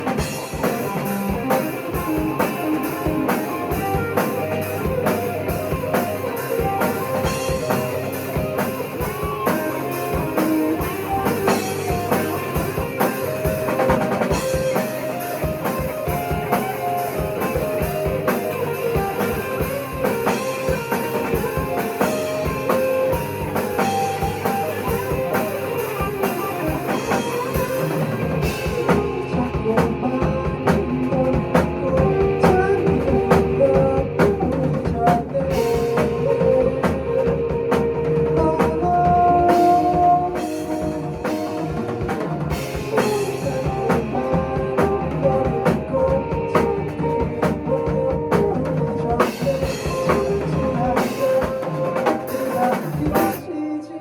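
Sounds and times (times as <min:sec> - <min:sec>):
drum kit beat: 0:00.0 - 0:53.5
lead guitar: 0:00.0 - 0:54.0.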